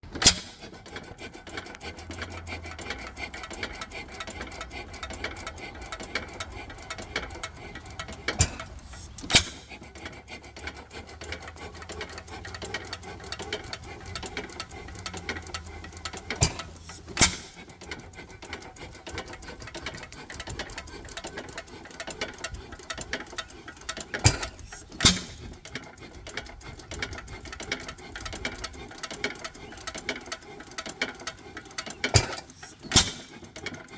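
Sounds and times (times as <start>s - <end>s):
engine mechanism ticking: 0.0s - 33.9s.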